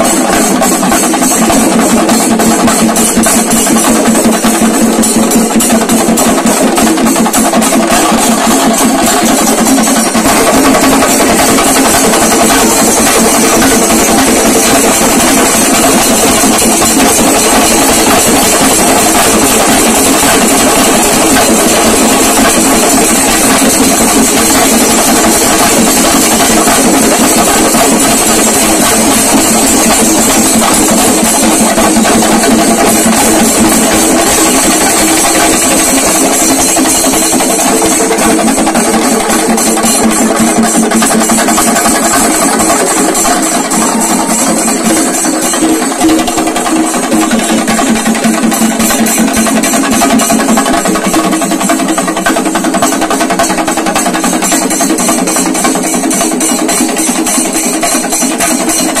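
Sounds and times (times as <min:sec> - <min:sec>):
drums beaten with sticks: 0:00.0 - 0:59.0.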